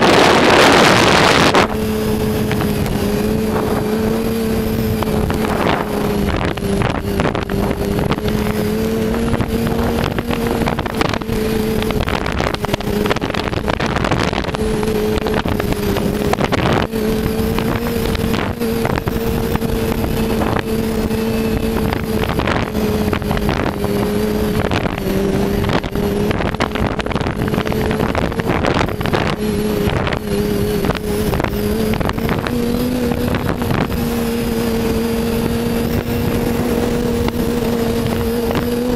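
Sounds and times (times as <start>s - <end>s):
snowmobile engine running: 0.0s - 38.9s
wind buffeting microphone: 0.0s - 38.9s.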